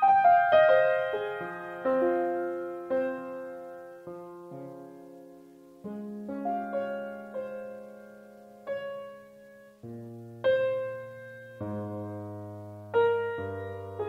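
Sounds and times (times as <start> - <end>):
slow quiet piano: 0.0 - 14.0.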